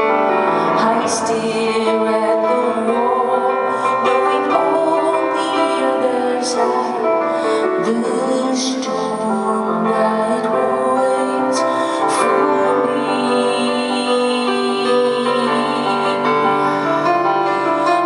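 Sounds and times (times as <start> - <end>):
piano chords: 0.0 - 18.0
woman singing: 0.0 - 18.0.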